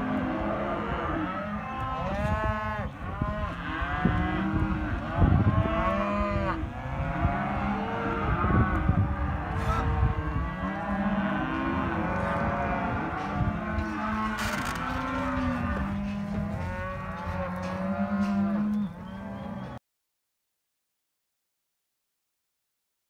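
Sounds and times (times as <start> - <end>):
calves bawling: 0.0 - 19.8.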